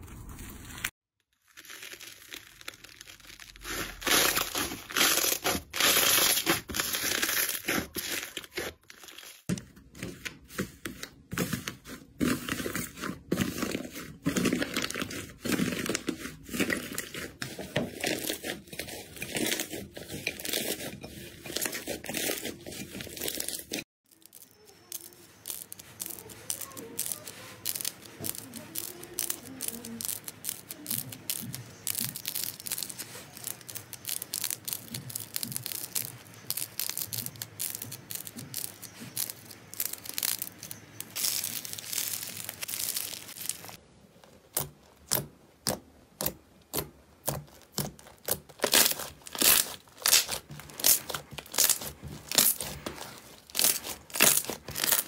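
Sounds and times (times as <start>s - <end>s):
slime squelches: 0.0s - 55.0s
slime crackling and popping: 1.3s - 10.1s, 10.9s - 55.0s.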